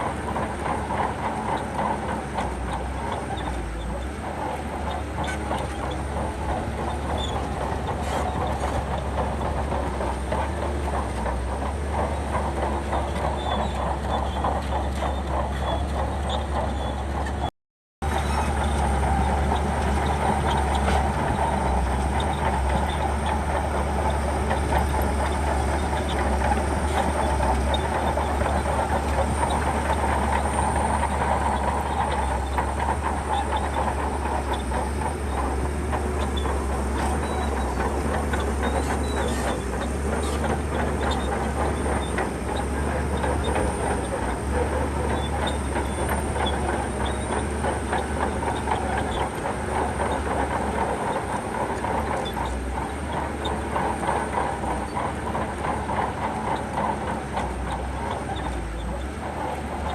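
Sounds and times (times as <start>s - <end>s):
bulldozer diesel engine running: 0.0s - 59.9s
steel tracks clanking: 0.0s - 59.9s.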